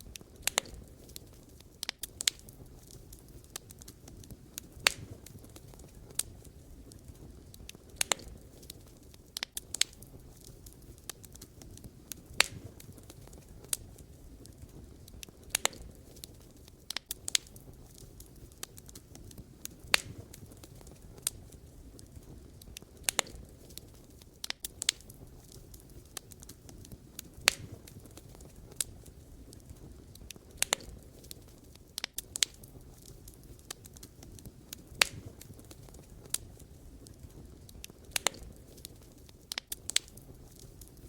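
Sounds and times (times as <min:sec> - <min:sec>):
logs crackling and popping: 0:00.0 - 0:41.0
low rumble of flames: 0:00.0 - 0:41.0.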